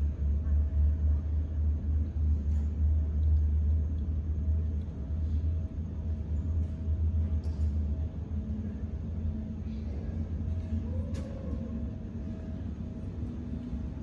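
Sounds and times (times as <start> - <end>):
muffled airliner rumble: 0.0 - 14.0.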